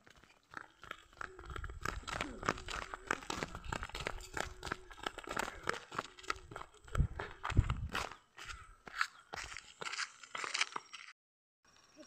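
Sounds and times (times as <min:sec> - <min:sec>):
sneakers crunching on dirt: 0:00.0 - 0:11.1.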